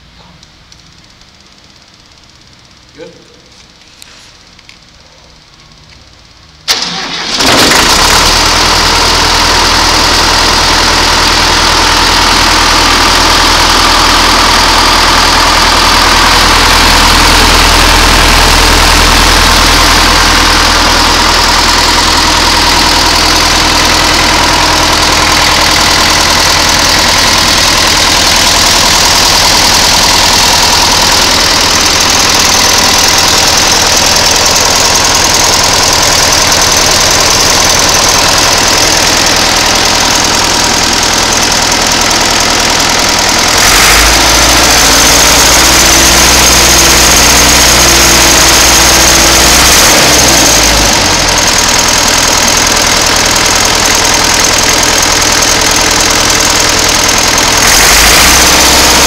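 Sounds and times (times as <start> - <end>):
diesel engine starting and running: 0.0 - 59.0.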